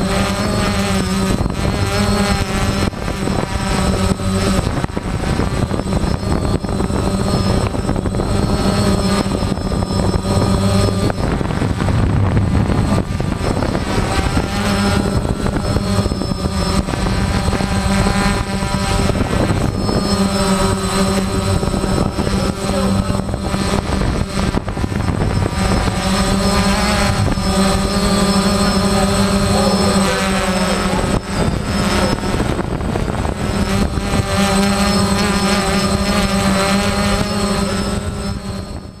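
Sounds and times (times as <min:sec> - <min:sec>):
machinery droning: 0:00.0 - 0:39.0
thin high whine: 0:00.0 - 0:39.0.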